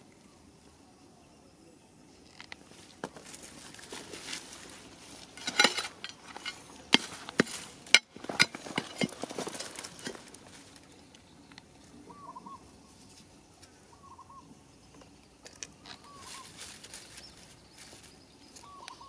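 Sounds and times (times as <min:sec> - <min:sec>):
dry grass and twigs rustling: 0:02.2 - 0:19.0.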